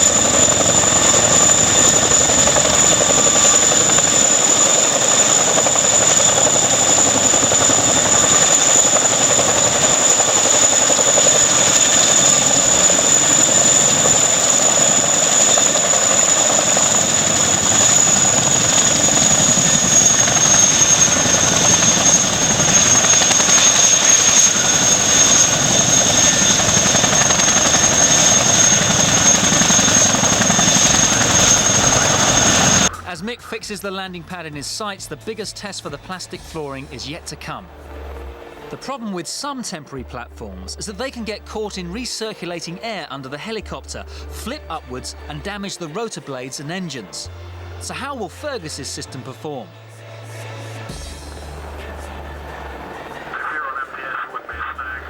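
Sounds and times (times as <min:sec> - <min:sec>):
helicopter engine and rotor: 0:00.0 - 0:33.4, 0:35.8 - 0:39.2, 0:43.7 - 0:55.0
high turbine whine: 0:00.0 - 0:55.0.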